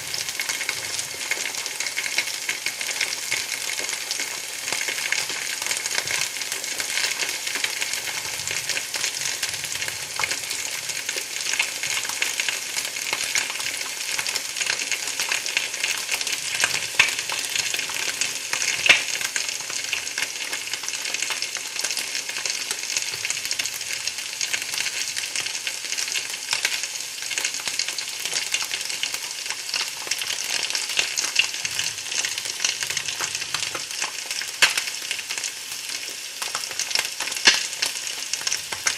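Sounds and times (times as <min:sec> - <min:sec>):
food sizzling in a pan: 0:00.0 - 0:38.9
loud frying pops: 0:00.0 - 0:38.9.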